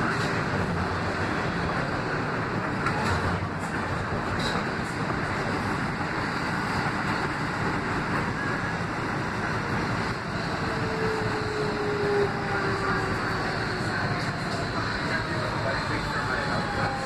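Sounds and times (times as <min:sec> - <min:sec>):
subway car rumbling on rails: 0:00.0 - 0:17.0.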